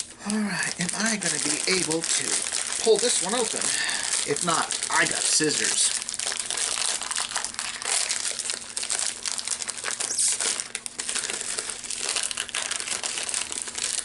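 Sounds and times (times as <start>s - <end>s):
plastic snack bag crinkling: 0.0s - 14.0s.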